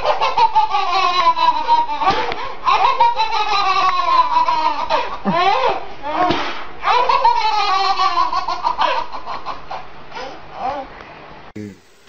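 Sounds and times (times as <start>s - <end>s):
babies laughing: 0.0s - 10.9s.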